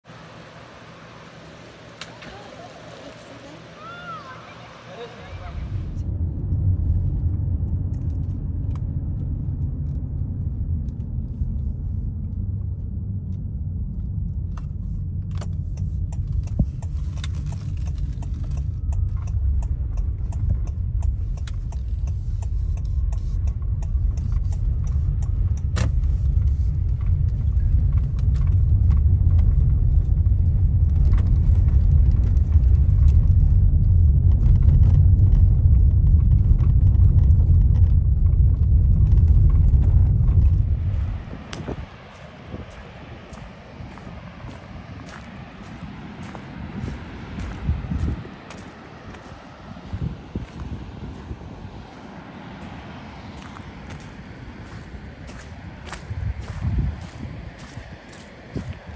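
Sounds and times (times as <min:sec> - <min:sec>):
car rumbling over gravel road: 0:04.8 - 0:58.9.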